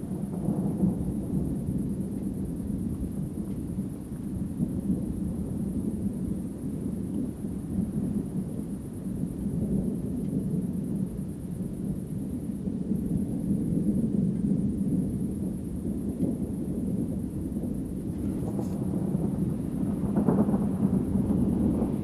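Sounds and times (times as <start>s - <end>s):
distant thunder rumbling: 0.0s - 22.0s.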